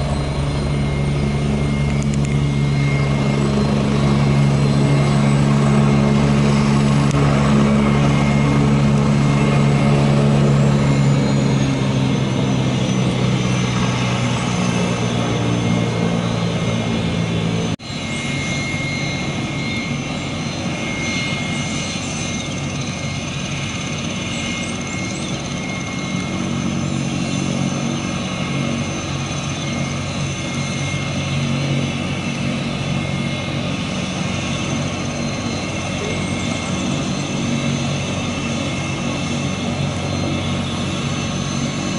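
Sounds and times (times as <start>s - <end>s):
helicopter rotor: 0.0s - 41.9s
turbine whine: 0.0s - 41.9s.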